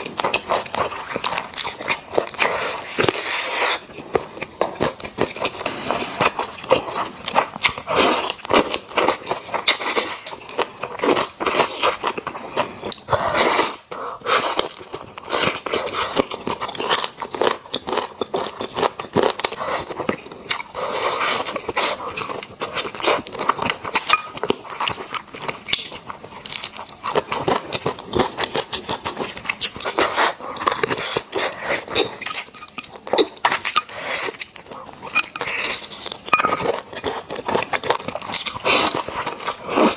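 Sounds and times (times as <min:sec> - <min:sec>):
close chewing and biting: 0:00.0 - 0:39.9.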